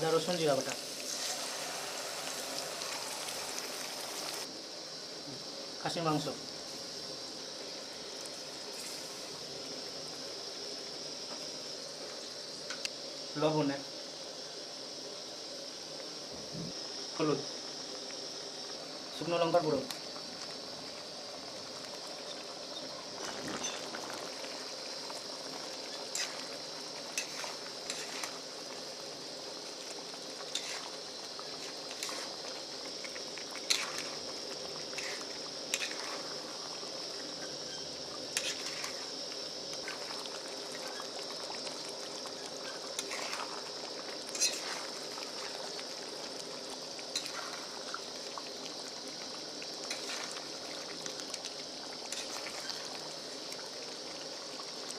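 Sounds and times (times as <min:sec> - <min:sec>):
meat sizzling in hot oil: 0:00.0 - 0:54.9.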